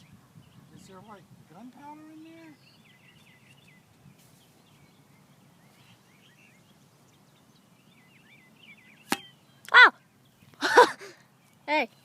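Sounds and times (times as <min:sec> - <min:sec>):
small bird chirping: 0:00.0 - 0:10.6
outdoor background noise: 0:00.0 - 0:12.0.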